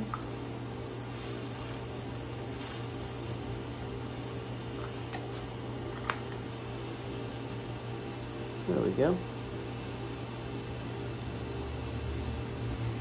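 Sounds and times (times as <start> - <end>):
welding arc hissing: 0.0 - 5.2, 6.1 - 13.0.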